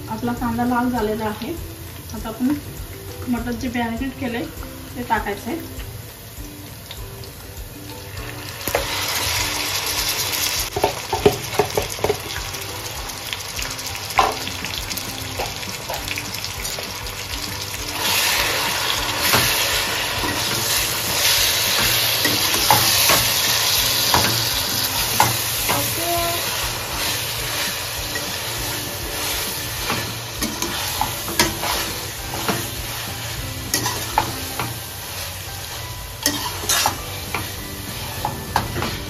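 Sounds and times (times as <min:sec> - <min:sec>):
meat sizzling in hot oil: 0:00.0 - 0:39.0.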